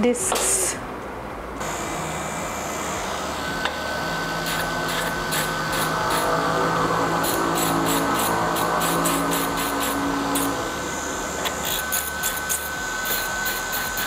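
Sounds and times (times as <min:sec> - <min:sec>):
dental handpiece motor whine: 0:01.6 - 0:14.0.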